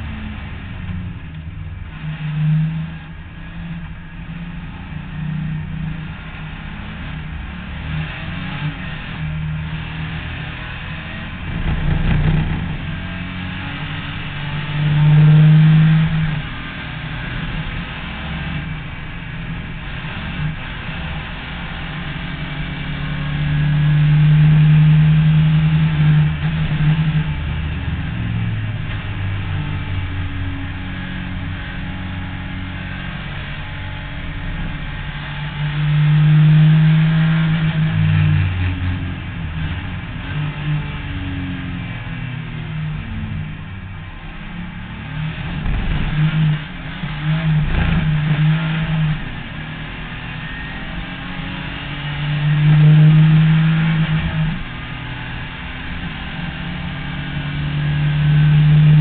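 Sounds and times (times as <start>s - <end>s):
race car engine from cockpit: 0.0s - 59.0s.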